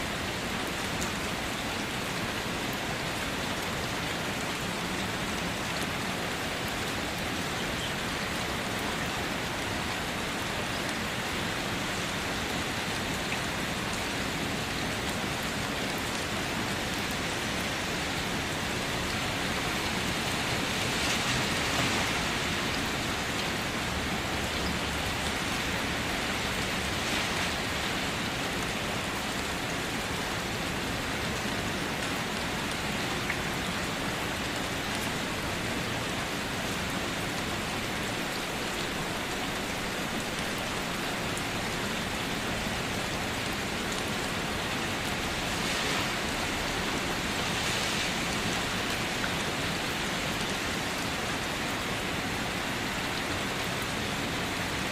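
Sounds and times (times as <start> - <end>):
rain drumming on a car: 0.1 - 54.9.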